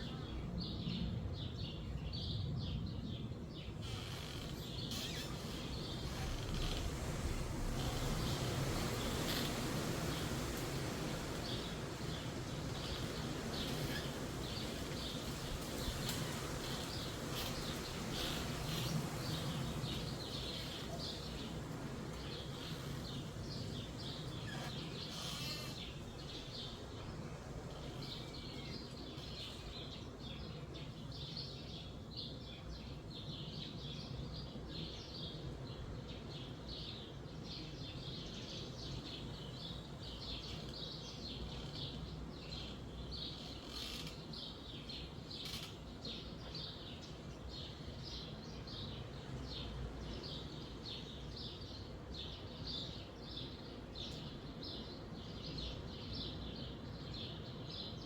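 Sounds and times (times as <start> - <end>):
songbirds chirping: 0.0 - 58.0
wind rushing through trees: 0.0 - 58.0.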